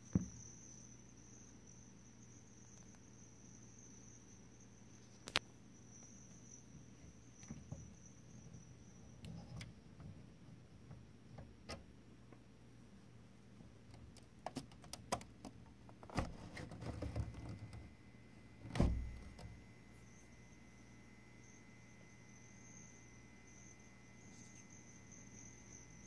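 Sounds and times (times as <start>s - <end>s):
low steady hum: 0.3s - 26.0s.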